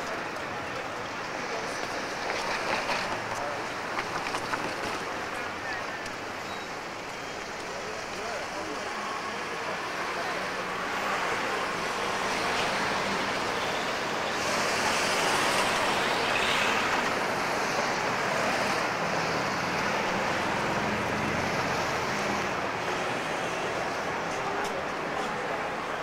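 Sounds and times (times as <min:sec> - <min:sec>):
street traffic passing: 0:00.0 - 0:26.0.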